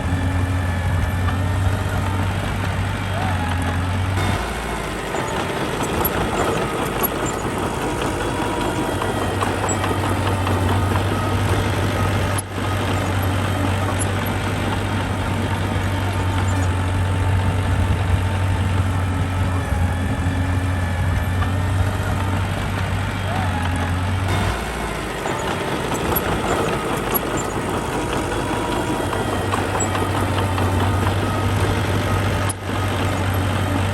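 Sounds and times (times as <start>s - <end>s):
diesel engine droning: 0.0s - 33.9s.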